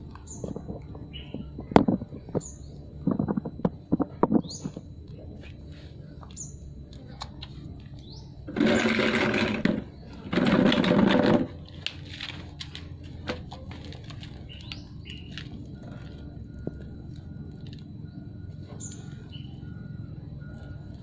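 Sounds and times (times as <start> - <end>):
loud steady buzzing: 0.0 - 21.0.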